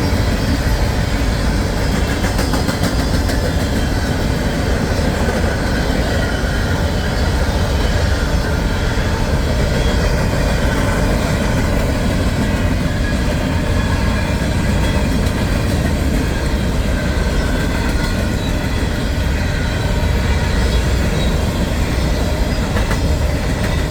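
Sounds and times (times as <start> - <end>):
train wheels on rails: 0.0 - 23.9.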